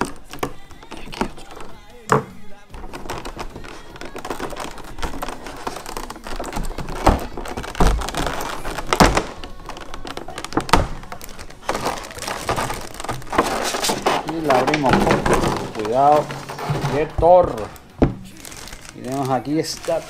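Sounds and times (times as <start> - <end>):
plastic snapping: 0.0 - 20.0
plastic tray crinkling: 0.0 - 20.0.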